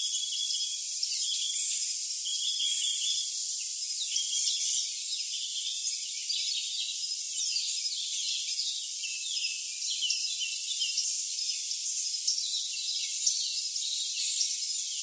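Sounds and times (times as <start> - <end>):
crickets hissing: 0.0 - 15.0.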